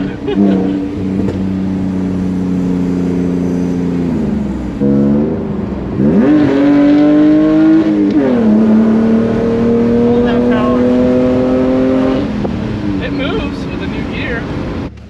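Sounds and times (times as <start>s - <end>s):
car engine accelerating through gears: 0.0s - 15.0s.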